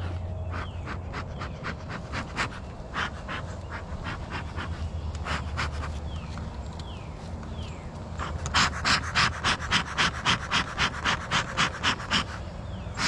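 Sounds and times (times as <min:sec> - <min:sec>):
bellows puffing: 0:00.0 - 0:06.1, 0:08.2 - 0:13.0
steady low hum: 0:00.0 - 0:13.0.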